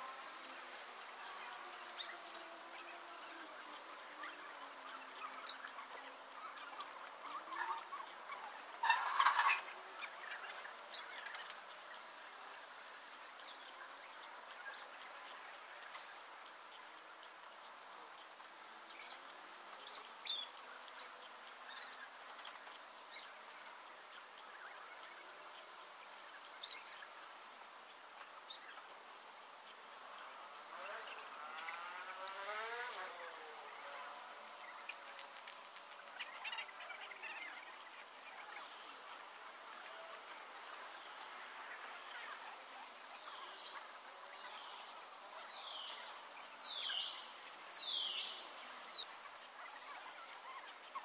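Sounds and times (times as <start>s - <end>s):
steady hiss: 0.0s - 51.0s.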